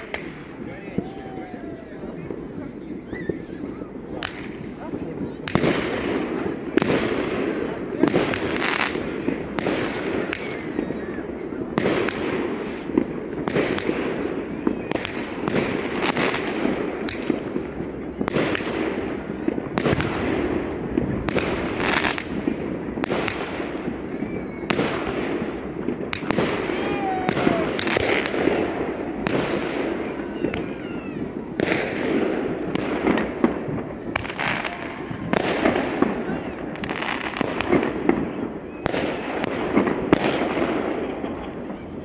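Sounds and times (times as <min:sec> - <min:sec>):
fireworks bangs: 0:00.0 - 0:42.0
fireworks crackling: 0:00.0 - 0:42.0
fireworks whistles: 0:00.0 - 0:42.0.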